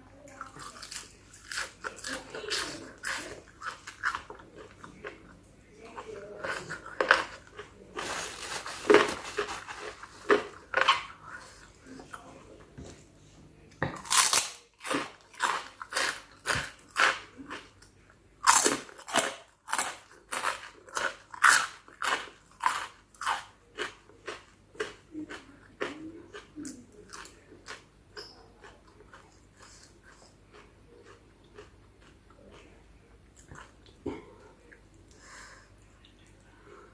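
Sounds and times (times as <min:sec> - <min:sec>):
crunchy chewing: 0:00.3 - 0:11.8, 0:14.0 - 0:35.2.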